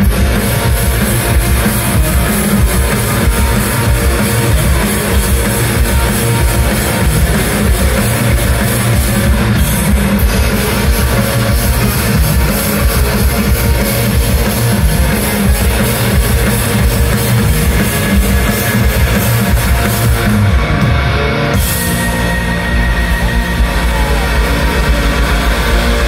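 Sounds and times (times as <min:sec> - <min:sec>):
drum kit: 0:00.0 - 0:26.0
electric bass: 0:00.0 - 0:26.0
electric guitar: 0:00.0 - 0:26.0.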